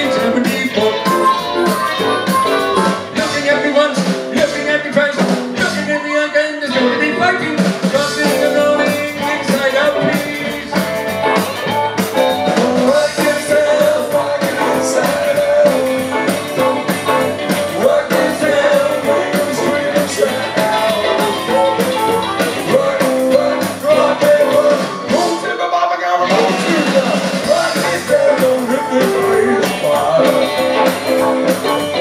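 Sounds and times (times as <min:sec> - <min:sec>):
man singing: 0:00.0 - 0:11.4, 0:12.2 - 0:32.0
rock and roll band playing: 0:00.0 - 0:32.0.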